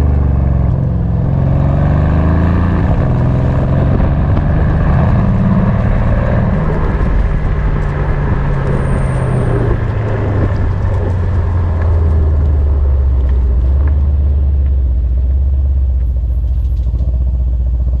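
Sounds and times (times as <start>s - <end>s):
car engine: 0.0s - 18.0s.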